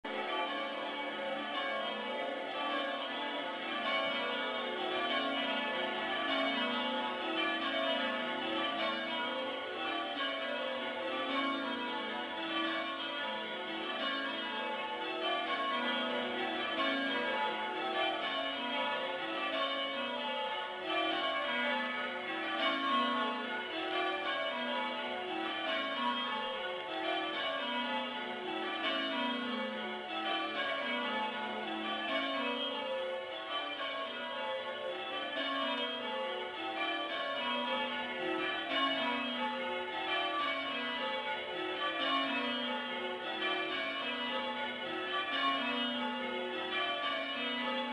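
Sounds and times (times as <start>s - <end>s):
church bells change-ringing: 0.1s - 47.9s.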